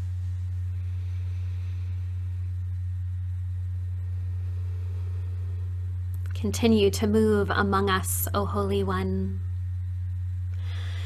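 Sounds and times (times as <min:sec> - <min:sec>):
steady low-pitched hum: 0:00.0 - 0:11.0.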